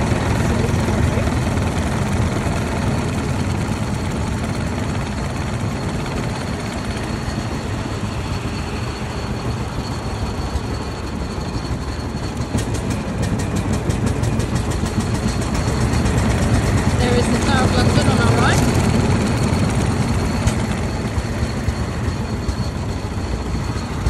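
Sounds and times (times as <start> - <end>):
road noise: 0.0 - 24.0
single-cylinder car engine running: 0.0 - 24.0.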